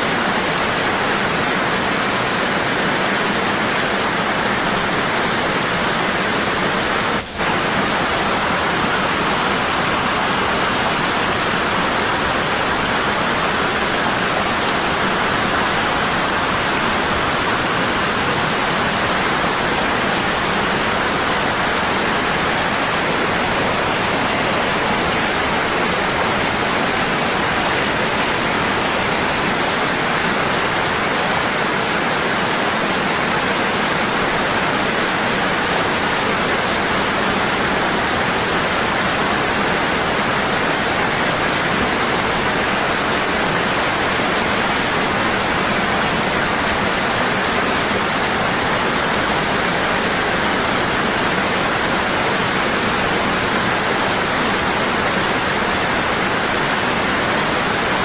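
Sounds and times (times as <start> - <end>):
waterfall pouring: 0.0 - 58.0.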